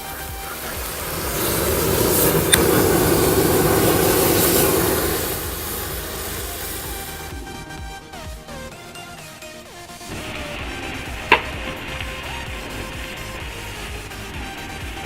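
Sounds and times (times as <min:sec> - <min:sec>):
fireworks rushing hiss: 0:00.0 - 0:15.0.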